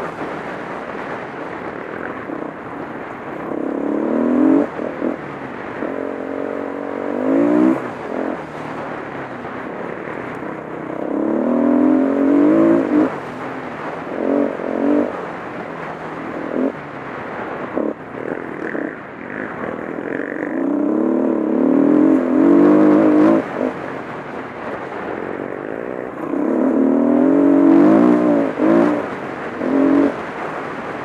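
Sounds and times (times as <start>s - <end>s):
dirt bike engine accelerating: 0.0s - 31.0s
wind rumble: 0.0s - 31.0s.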